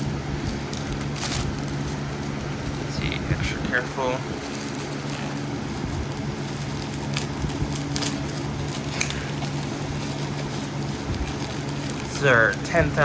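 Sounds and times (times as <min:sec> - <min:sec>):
packaging crinkling: 0:00.0 - 0:13.0
steady low hum: 0:00.0 - 0:13.0.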